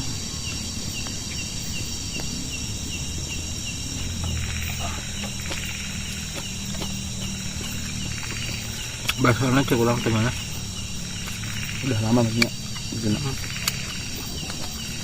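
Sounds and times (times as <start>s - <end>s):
insects chirping: 0.0s - 15.0s
low hum: 0.0s - 15.0s.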